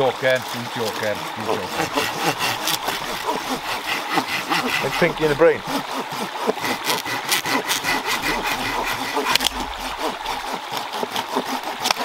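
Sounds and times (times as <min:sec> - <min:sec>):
hand saw cutting log: 0:00.0 - 0:12.0.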